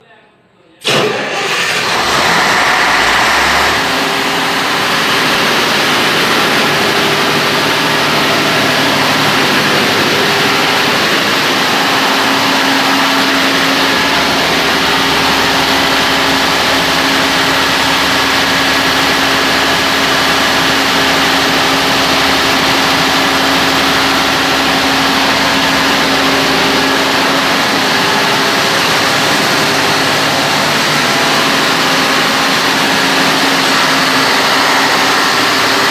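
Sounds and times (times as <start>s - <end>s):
diesel generator drone: 0.8s - 35.9s.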